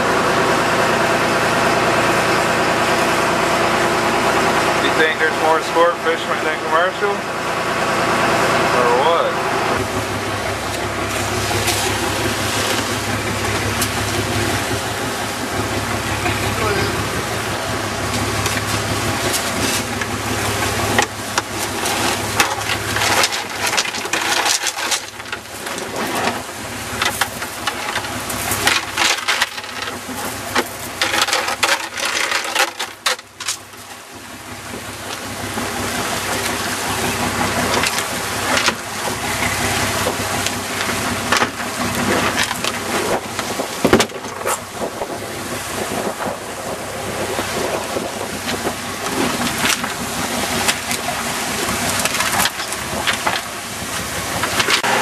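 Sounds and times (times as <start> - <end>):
boat engine running: 0.0 - 55.0
water churning and splashing: 0.0 - 55.0
gear knocking and rattling: 10.6 - 55.0.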